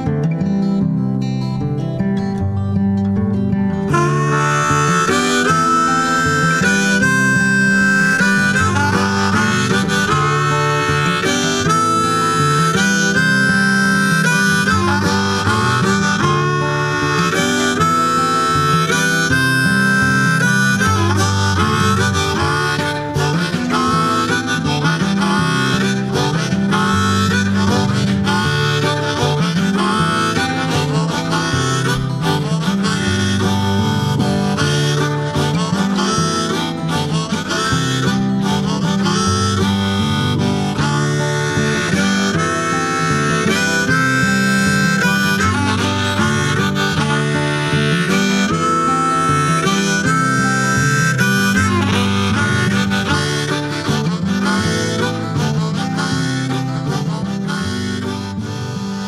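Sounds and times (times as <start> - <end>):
guitar: 0.0 - 59.0
harmonica playing blues: 0.0 - 59.0.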